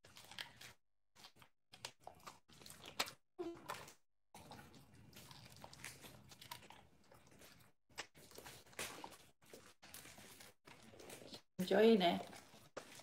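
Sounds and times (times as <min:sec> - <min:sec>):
dog chewing and crunching treat: 0:00.0 - 0:13.0.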